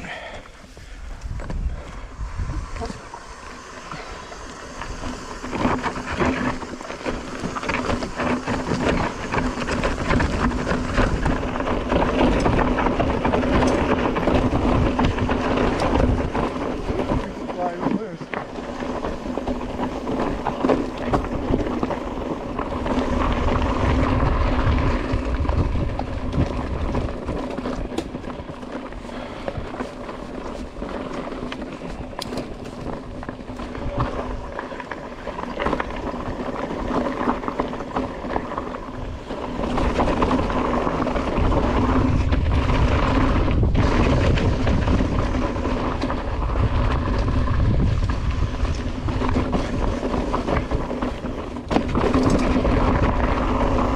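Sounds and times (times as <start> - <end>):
bike rattling over rocks: 0.0 - 53.9
wind rumble on microphone: 0.0 - 53.9.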